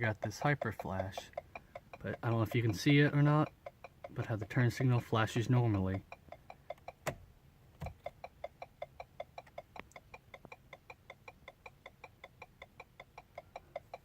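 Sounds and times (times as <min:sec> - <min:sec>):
turn signal clicking: 0:00.0 - 0:14.0.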